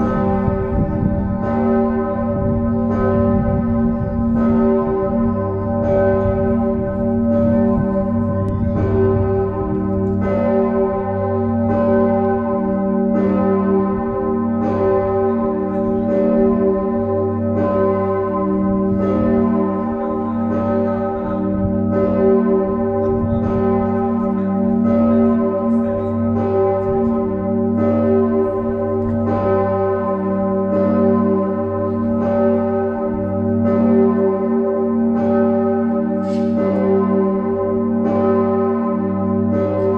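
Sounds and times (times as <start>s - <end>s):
large bell ringing: 0.0s - 39.9s.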